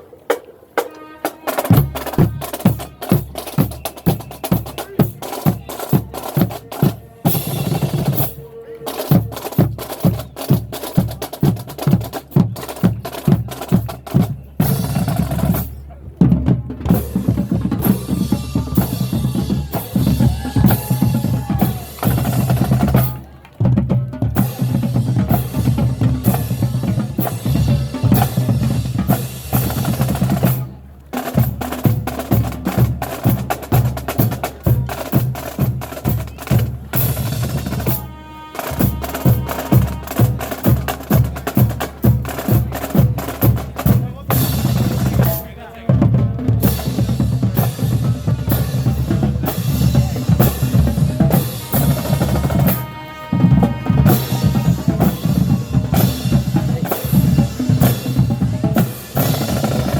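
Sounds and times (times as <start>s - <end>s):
snare drum rolls: 0.0s - 59.9s
bass drums: 1.7s - 8.4s, 9.1s - 59.9s.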